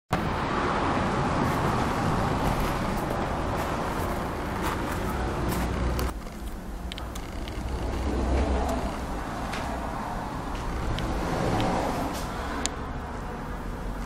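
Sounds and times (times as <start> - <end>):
road traffic rumble: 0.1 - 14.0.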